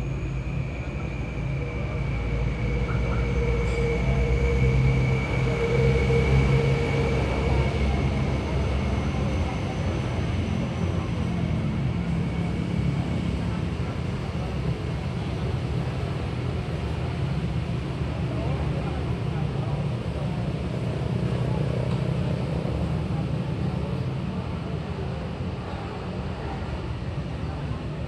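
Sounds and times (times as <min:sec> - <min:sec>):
distant engine hum: 0:00.0 - 0:28.0
outdoor noise: 0:00.0 - 0:28.0.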